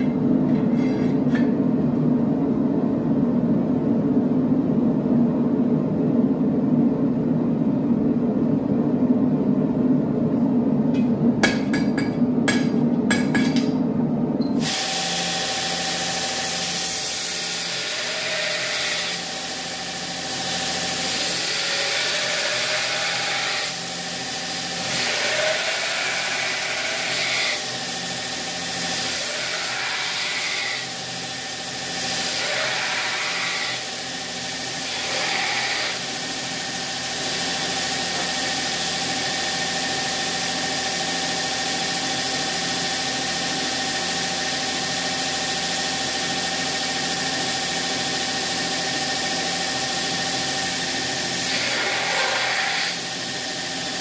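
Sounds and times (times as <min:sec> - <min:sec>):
workshop machine humming: 0:00.0 - 0:54.0.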